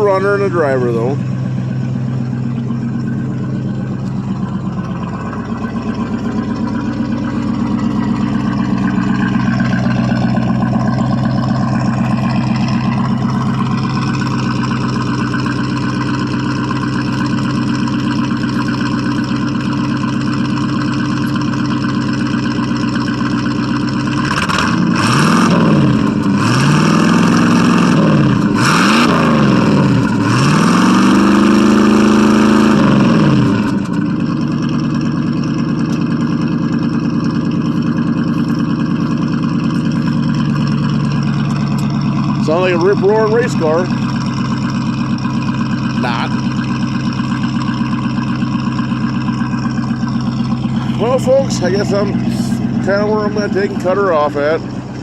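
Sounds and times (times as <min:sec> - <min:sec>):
pickup engine idling and revving: 0:00.0 - 0:55.0.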